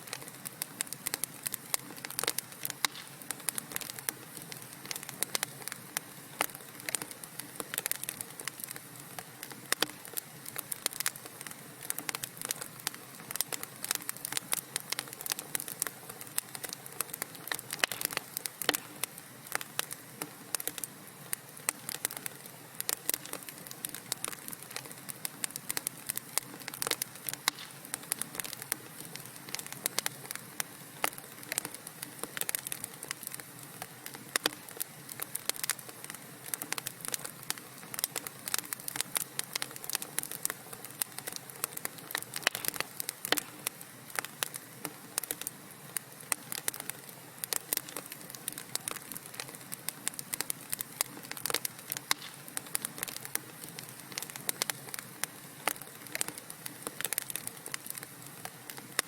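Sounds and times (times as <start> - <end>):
soft hiss: 0.0 - 59.0
wood fire crackling: 0.0 - 59.0.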